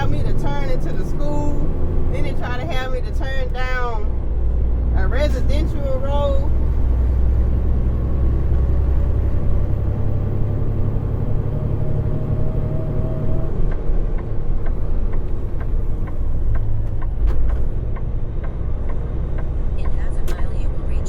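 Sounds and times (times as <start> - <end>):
truck diesel engine rumble: 0.0 - 21.0.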